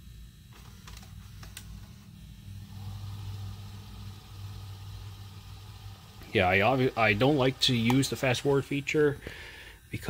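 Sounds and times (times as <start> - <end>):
tape deck motor whirring: 0.4 - 9.5.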